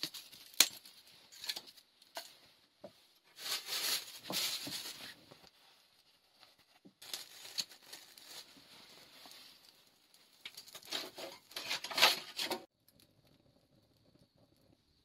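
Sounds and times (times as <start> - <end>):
dry material rustling and crinkling: 0.0 - 12.7.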